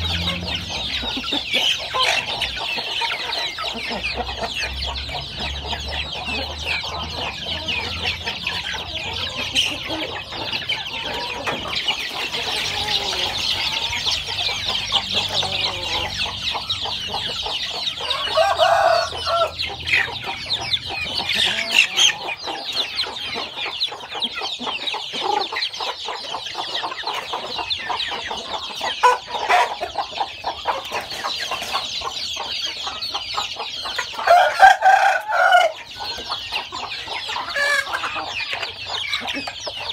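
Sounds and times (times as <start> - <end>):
chicken calling: 0.0 - 39.9
chicks peeping: 0.0 - 39.9.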